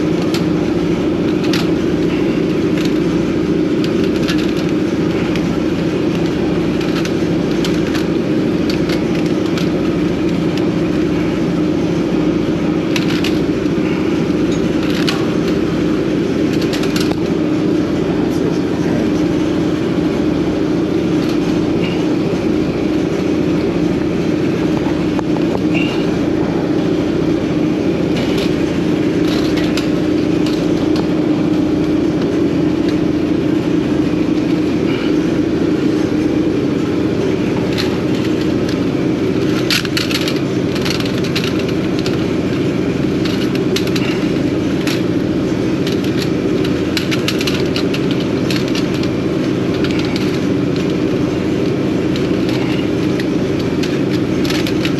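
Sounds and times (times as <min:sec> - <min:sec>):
engine droning: 0:00.0 - 0:54.9.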